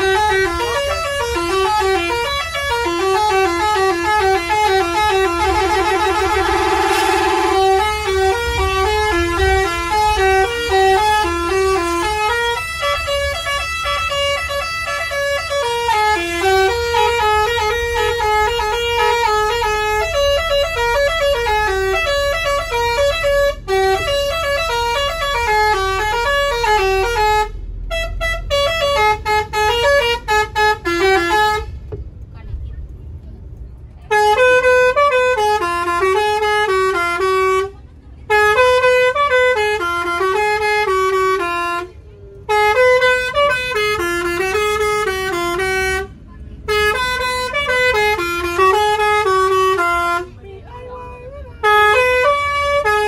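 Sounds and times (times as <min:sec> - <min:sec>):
multi-tone air horn tune: 0:00.0 - 0:31.8, 0:34.1 - 0:53.0
bus engine rumble: 0:00.0 - 0:53.0.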